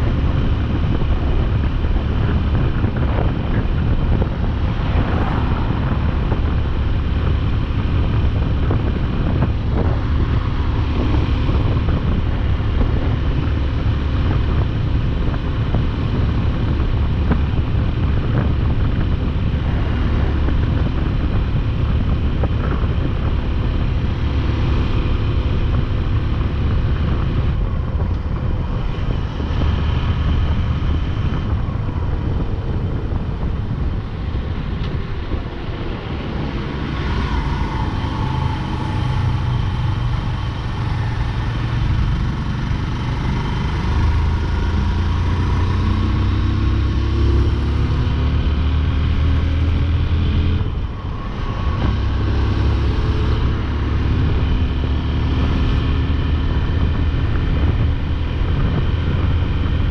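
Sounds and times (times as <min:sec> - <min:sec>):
motorcycle engine accelerating: 0:00.0 - 0:59.9
road and wind rush: 0:00.0 - 0:59.9.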